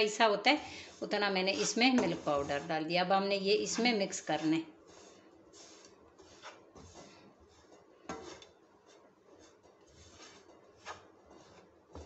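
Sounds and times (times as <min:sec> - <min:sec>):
spatula scraping a frying pan: 0:00.0 - 0:12.0.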